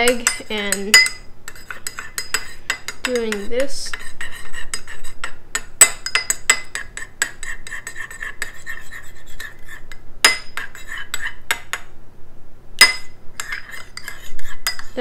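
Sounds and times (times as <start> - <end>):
spoon clinking against bowl: 0.0 - 8.8, 9.4 - 11.9, 12.8 - 15.0.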